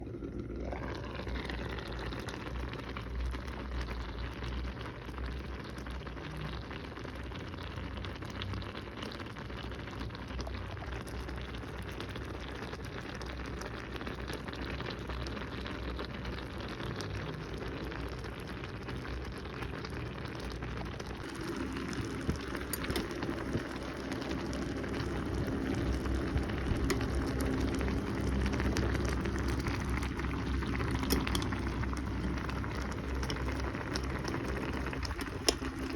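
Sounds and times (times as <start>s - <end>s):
food cooking crackling hiss: 0.2s - 35.9s.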